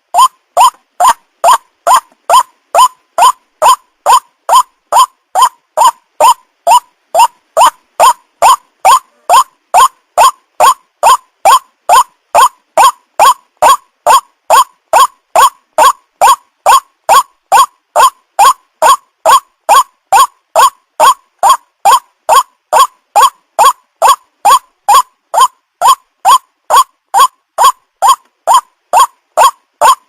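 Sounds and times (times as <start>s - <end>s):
bird calling repeatedly: 0.0s - 30.0s.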